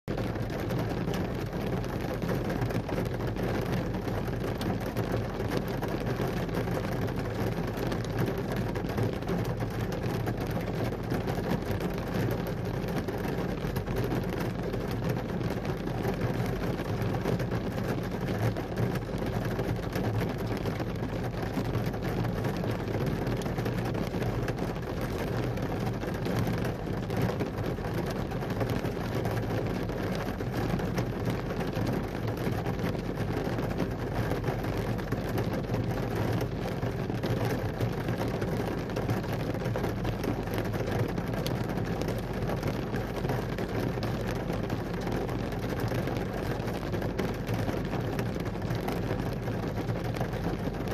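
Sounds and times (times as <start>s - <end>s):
patter of raindrops: 0.0s - 50.9s
rain falling on trees: 0.0s - 50.9s.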